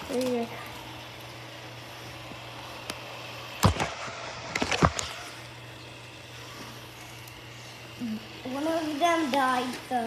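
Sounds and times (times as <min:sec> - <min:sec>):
robot vacuum humming: 0:00.0 - 0:10.0.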